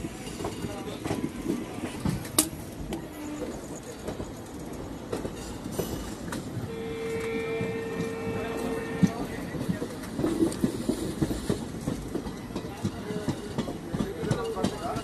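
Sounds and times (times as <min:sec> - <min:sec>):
train wheel rumble: 0:00.0 - 0:15.0
wheels clacking over rail joints: 0:00.0 - 0:15.0.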